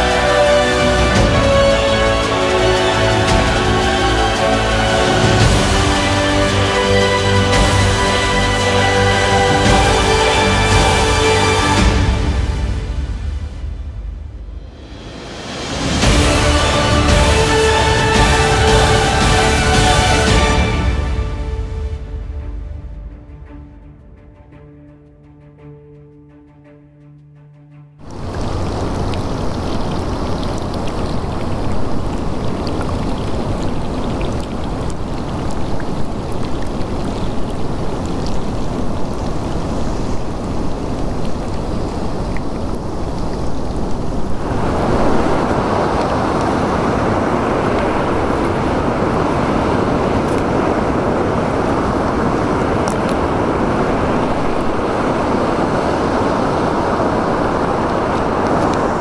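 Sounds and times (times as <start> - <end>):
waterfall rushing: 0.0 - 23.8, 28.0 - 59.0.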